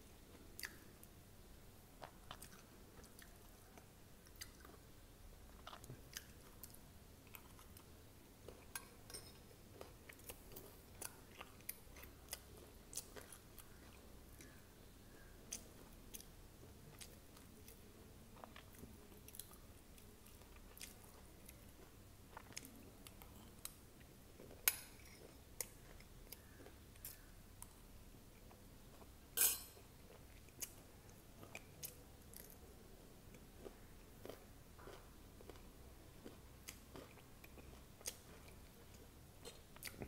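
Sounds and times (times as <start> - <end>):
chewing crunchy food: 2.0 - 9.0, 9.7 - 29.2, 29.8 - 40.0.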